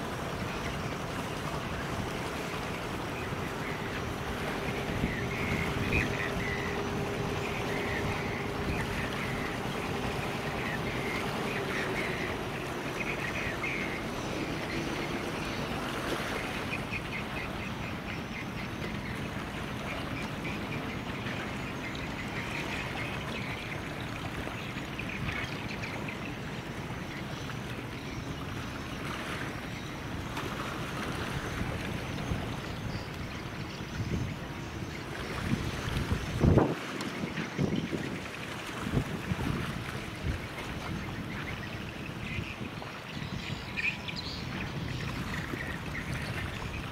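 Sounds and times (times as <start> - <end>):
boat engines: 0.0 - 46.9
low engine hum: 0.0 - 46.9
moving water: 0.0 - 46.9.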